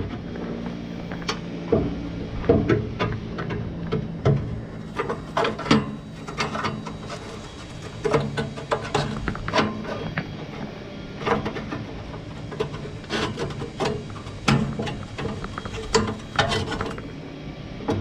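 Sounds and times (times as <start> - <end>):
metal scraping: 0.0 - 18.0
metal clanks and knocks: 1.0 - 17.2.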